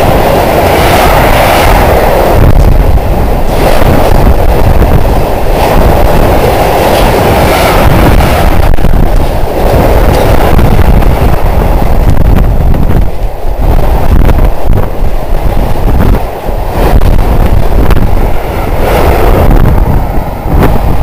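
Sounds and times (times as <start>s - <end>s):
train wheels rumbling and clattering: 0.0s - 21.0s.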